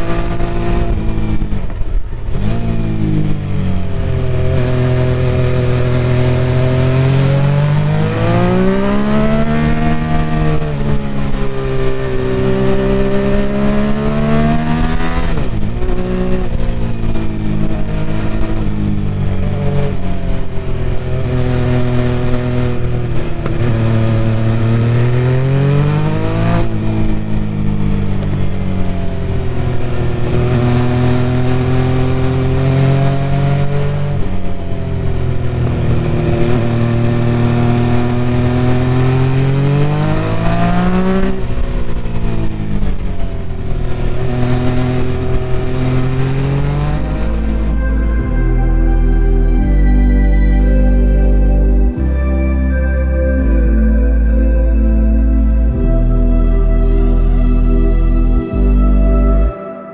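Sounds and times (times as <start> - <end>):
motorcycle engine revving: 0.0 - 59.5.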